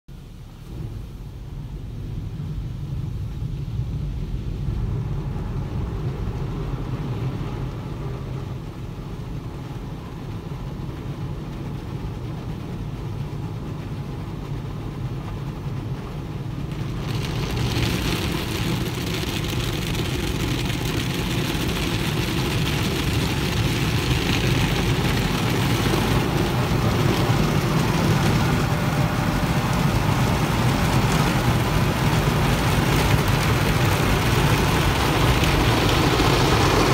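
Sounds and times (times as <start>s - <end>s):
car wash rumble: 0.1s - 36.9s
water spraying on car: 0.2s - 36.9s.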